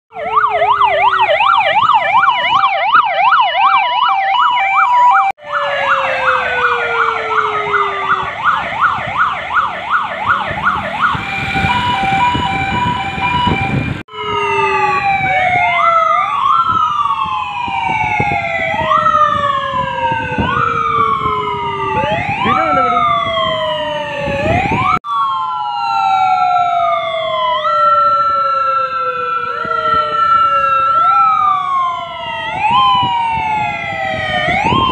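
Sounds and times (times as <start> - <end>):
police sirens wailing: 0.1 - 34.9.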